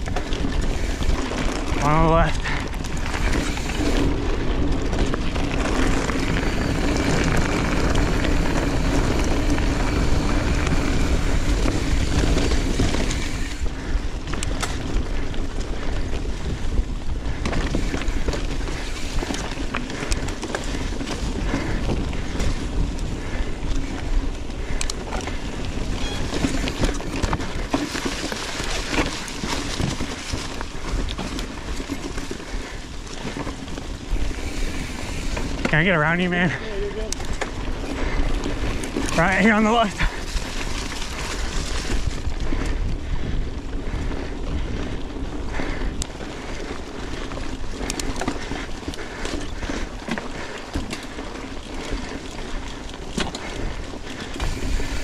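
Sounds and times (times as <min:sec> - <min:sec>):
bike tyres and frame rattling: 0:00.0 - 0:55.0
wind buffeting microphone: 0:00.0 - 0:55.0.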